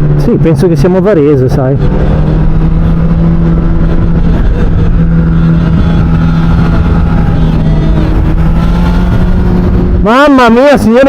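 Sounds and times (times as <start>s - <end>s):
low rushing noise: 0.0s - 11.0s
motorcycle engine running steadily: 0.0s - 11.0s.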